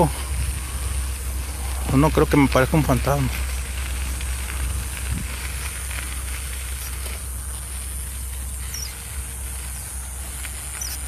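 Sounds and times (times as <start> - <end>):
steady high hiss: 0.0 - 11.0
wind rumbling on microphone: 0.0 - 11.0.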